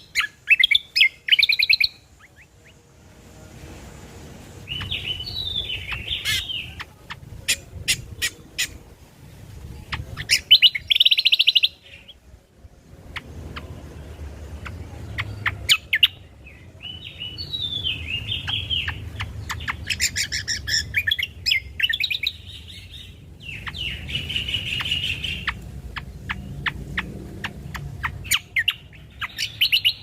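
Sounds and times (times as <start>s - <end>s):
songbird chirps and trills: 0.0s - 30.0s.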